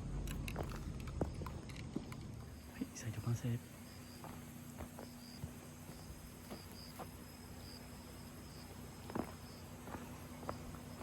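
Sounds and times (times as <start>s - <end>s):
insects chirping: 0.0s - 11.0s
steady low hum: 0.0s - 11.0s.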